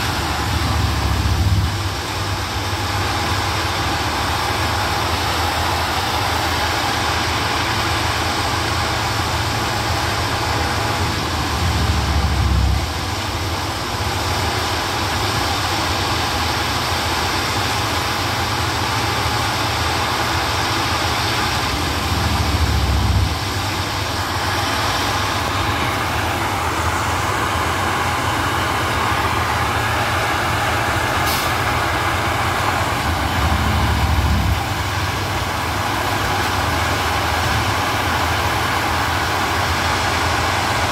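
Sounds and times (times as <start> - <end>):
machine engine running: 0.0 - 40.9
tamping units working ballast: 0.0 - 40.9.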